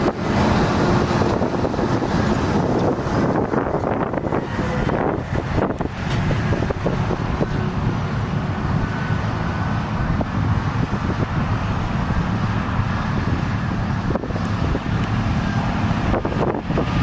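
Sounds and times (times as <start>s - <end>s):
distant construction machinery engines: 0.0s - 17.0s
wind buffeting microphone: 0.0s - 17.0s.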